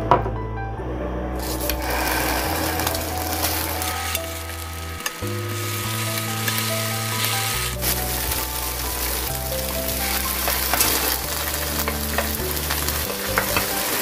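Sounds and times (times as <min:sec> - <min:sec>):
tofu sizzling in oil: 0:01.4 - 0:14.0.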